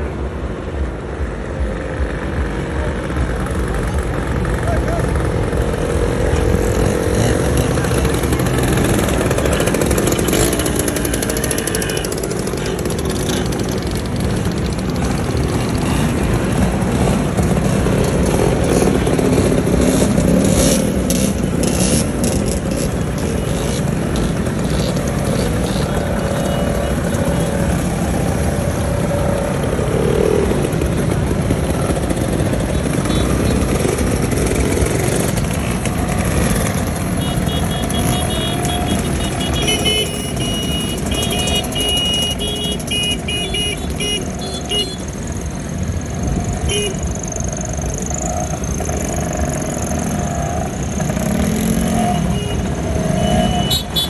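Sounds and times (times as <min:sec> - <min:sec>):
motor scooters riding past: 0:01.6 - 0:54.0.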